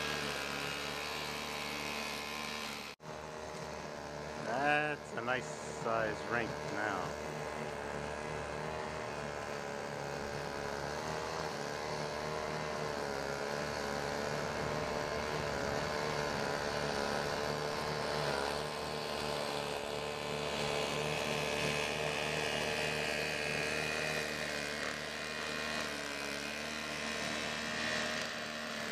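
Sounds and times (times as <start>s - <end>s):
snowblower engine running: 0.0s - 28.9s.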